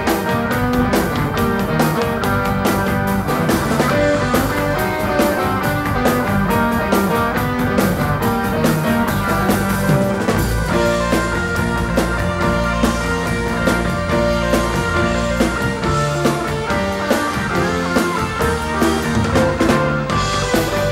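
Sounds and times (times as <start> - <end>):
drum kit: 0.0 - 20.9
electric guitar: 0.0 - 20.9
keyboards: 0.0 - 20.9.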